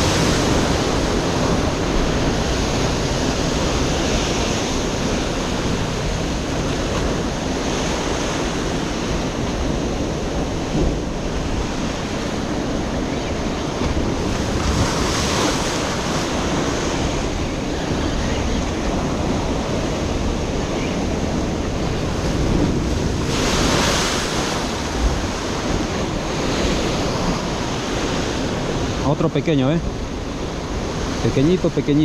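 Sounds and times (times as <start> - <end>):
wind buffeting microphone: 0.0 - 29.0
surf washing over rocks: 0.0 - 32.0.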